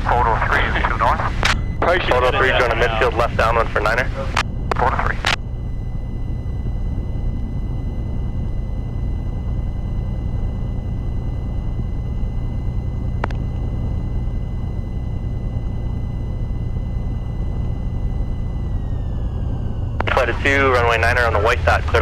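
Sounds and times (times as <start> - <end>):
aircraft engine drone: 0.0 - 22.0
high-pitched whine: 0.0 - 22.0.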